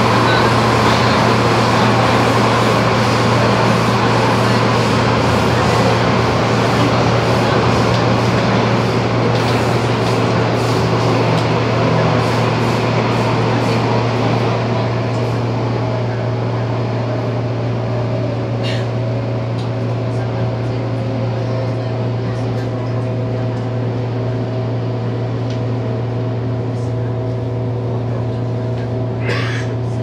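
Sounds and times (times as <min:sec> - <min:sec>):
subway train rumble and hiss: 0:00.0 - 0:30.0.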